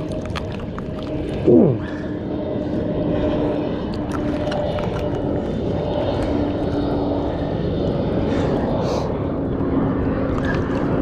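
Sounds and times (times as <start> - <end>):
distant engine hum: 0.0 - 11.0
wind rumble on microphone: 0.0 - 11.0.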